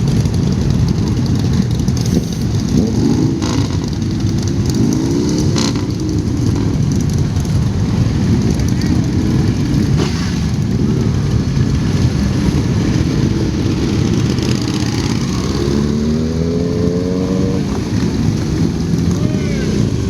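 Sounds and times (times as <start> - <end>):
motorcycle engine accelerating: 0.0 - 20.0
motorcycle engines rumbling: 0.0 - 20.0.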